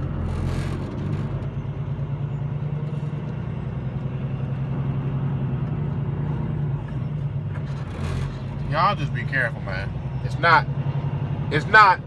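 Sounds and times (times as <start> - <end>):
diesel truck engine drone: 0.0 - 12.0
road noise: 0.0 - 12.0.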